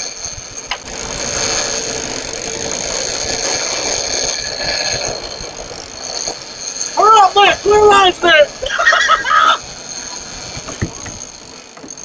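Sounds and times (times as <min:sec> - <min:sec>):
fishing reel screaming: 0:00.0 - 0:12.0.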